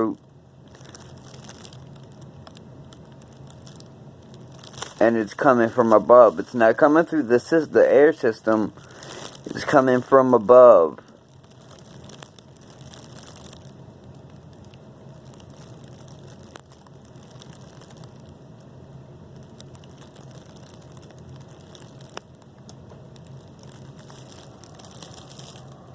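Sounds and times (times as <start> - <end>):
low hum: 0.0 - 25.9
rustling and handling crackle: 0.0 - 25.9.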